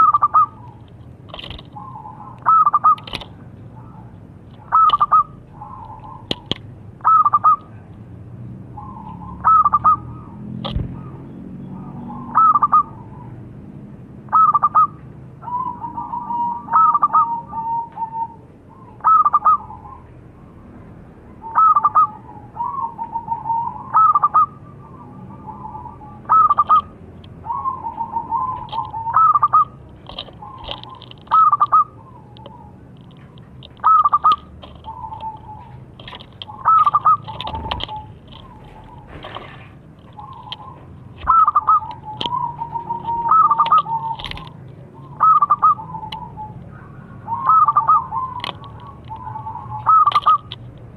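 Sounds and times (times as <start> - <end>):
high bird chirps: 0.0 - 7.7, 8.7 - 13.4, 14.3 - 20.2, 21.4 - 50.6
dove cooing: 0.0 - 7.9, 8.7 - 13.4, 14.3 - 20.6, 21.3 - 50.6.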